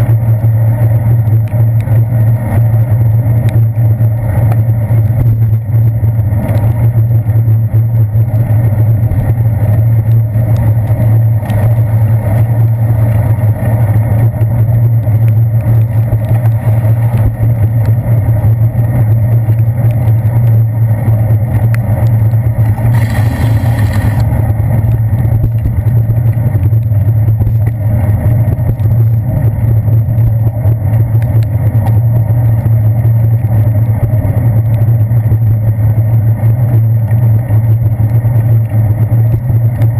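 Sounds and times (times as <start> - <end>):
bicycle road vibration on wet pavement: 0.0 - 39.9
wind rumble: 0.0 - 39.9.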